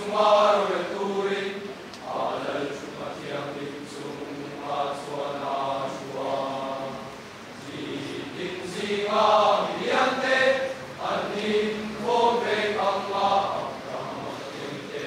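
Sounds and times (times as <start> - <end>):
large mixed choir singing: 0.0 - 15.0.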